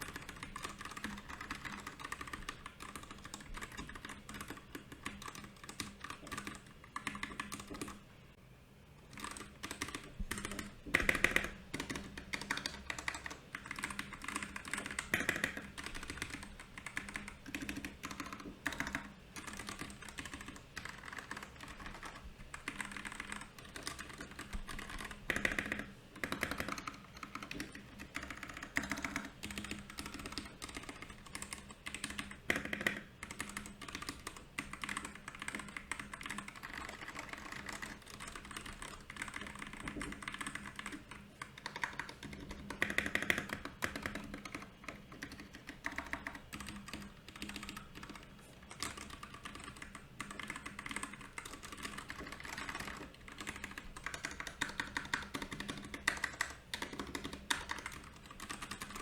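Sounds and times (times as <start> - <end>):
typing on mechanical keyboard: 0.0 - 8.0, 9.1 - 59.0.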